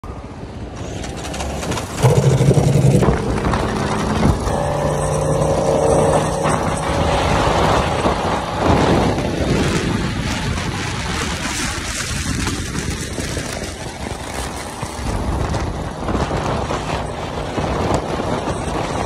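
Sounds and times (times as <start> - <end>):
motorcycle engine running: 0.8 - 19.0.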